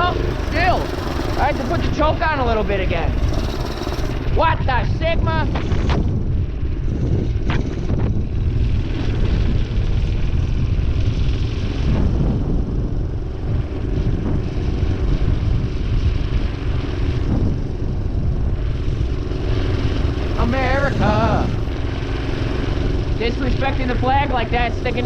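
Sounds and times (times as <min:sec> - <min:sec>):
minibike engine running: 0:00.0 - 0:25.0.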